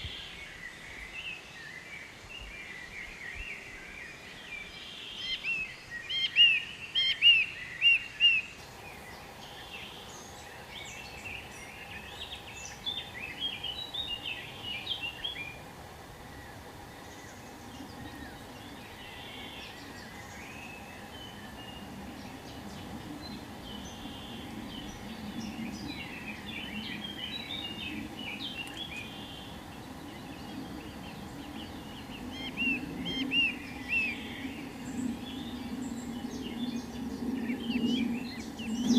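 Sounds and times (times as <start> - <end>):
low background noise: 0.0 - 38.9
small birds chirping: 0.0 - 38.9.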